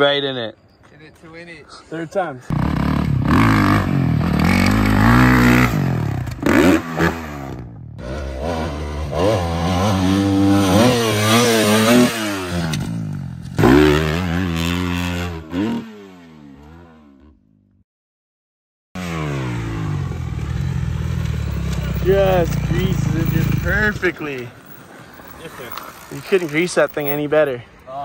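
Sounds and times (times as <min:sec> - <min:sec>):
dirt bike engine revving: 0:02.5 - 0:17.5, 0:19.0 - 0:27.2.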